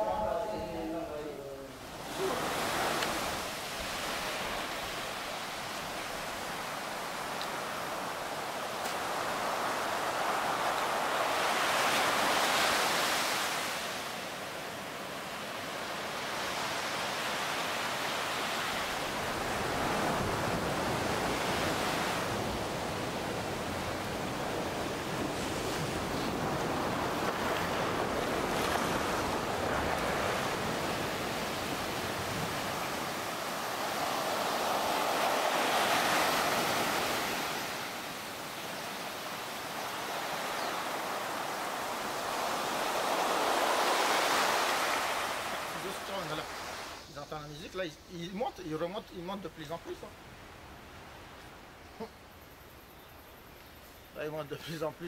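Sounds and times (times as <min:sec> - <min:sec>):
sea surf breaking: 0:00.0 - 0:47.0.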